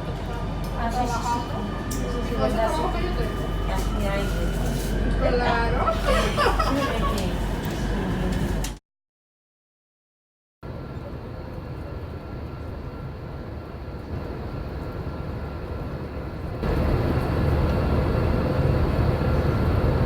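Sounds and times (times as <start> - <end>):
airliner cabin engine rumble: 0.0 - 8.8, 10.7 - 20.0.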